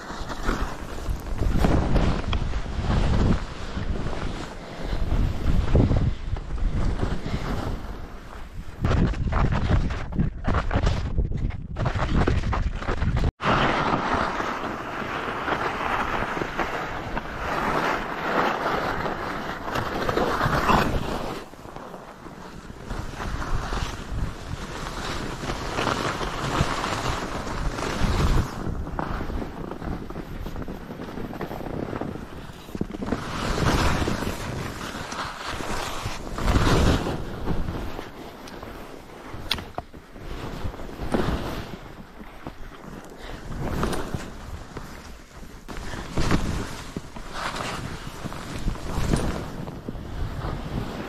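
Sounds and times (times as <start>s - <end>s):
skis scraping and spraying snow: 0.0s - 11.0s, 11.8s - 51.0s
wind rushing on microphone: 0.0s - 51.0s.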